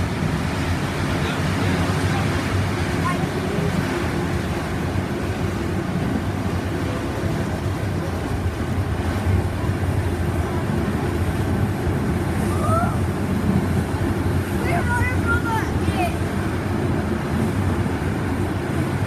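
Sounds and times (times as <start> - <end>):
train rumbling and rattling: 0.0 - 19.0.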